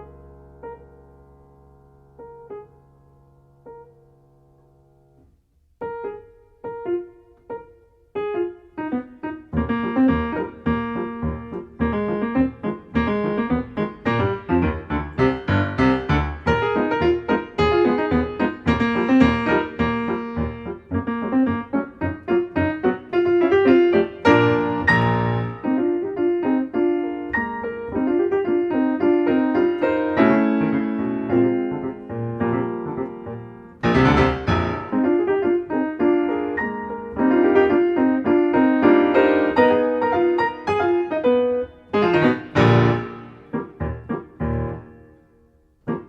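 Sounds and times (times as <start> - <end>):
solo piano music: 0.0 - 46.0.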